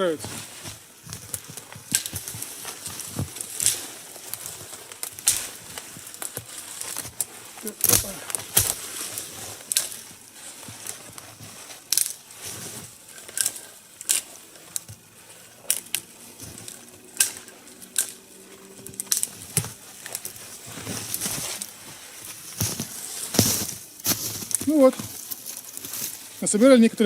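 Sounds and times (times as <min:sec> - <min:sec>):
dry branches snapping: 0:00.0 - 0:26.5.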